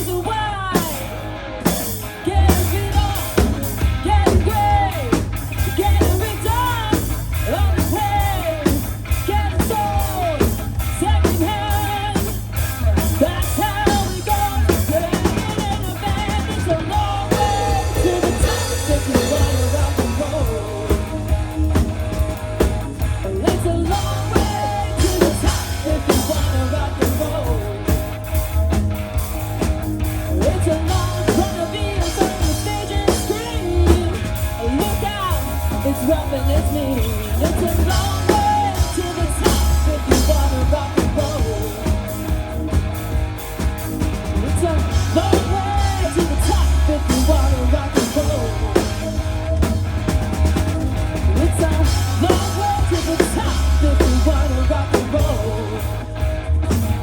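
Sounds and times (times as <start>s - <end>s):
person singing: 0.0s - 28.4s, 30.3s - 42.4s, 44.3s - 49.7s, 51.2s - 56.2s
bass guitar: 0.0s - 57.0s
drum kit: 0.0s - 57.0s
electric guitar: 0.0s - 57.0s.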